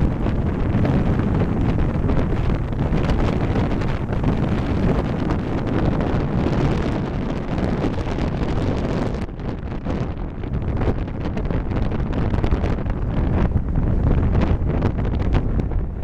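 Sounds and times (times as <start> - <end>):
jet engines rumbling: 0.0 - 16.0
wind buffeting microphone: 0.0 - 16.0.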